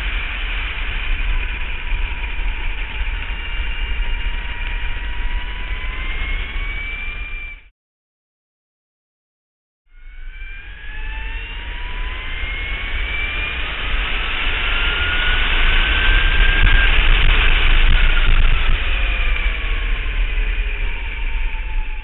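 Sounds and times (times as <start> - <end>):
electric motorcycle motor whine: 0.0 - 7.7, 9.9 - 22.0
wind noise rumble: 0.0 - 7.7, 10.0 - 22.0.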